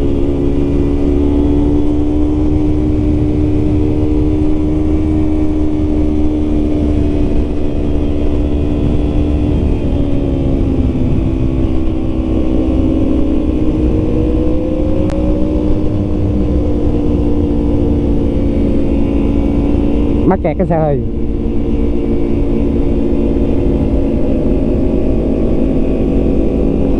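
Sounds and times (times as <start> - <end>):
faint engine tone: 0.0 - 26.9
motorcycle engine cruising: 0.0 - 26.9.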